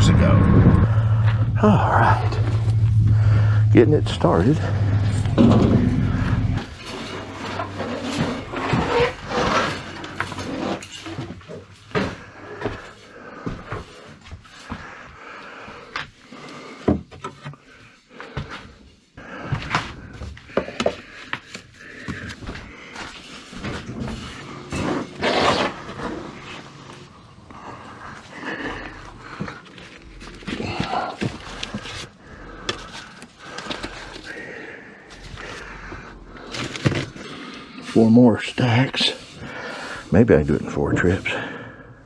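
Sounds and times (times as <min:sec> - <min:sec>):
scraping rustles: 0:02.0 - 0:15.1, 0:19.6 - 0:41.6.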